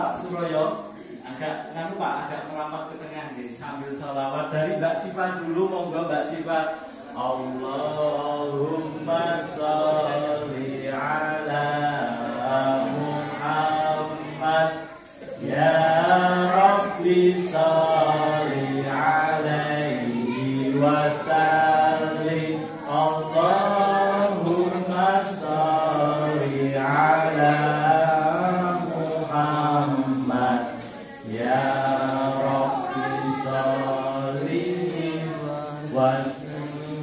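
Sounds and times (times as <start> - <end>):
voices chanting a devotional song: 0.0 - 37.0.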